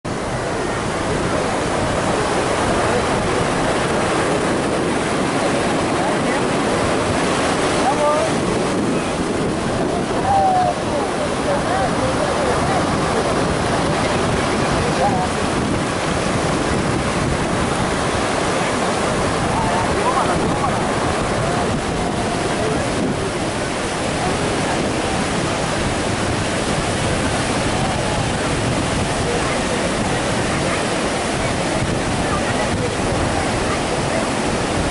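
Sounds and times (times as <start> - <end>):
ocean surf breaking on beach: 0.1 - 34.9.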